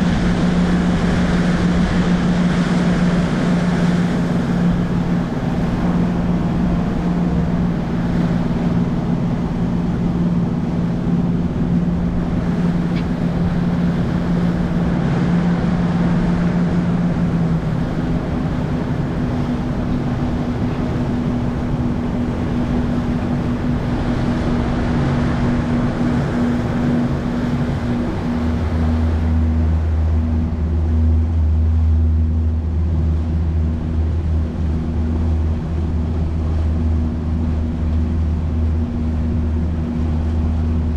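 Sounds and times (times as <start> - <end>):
outboard motor humming: 0.0 - 40.9
wind and water rushing past hull: 0.0 - 40.9.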